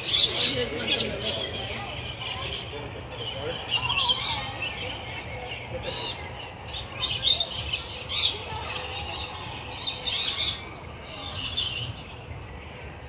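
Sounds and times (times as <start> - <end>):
birds calling high: 0.0 - 13.0.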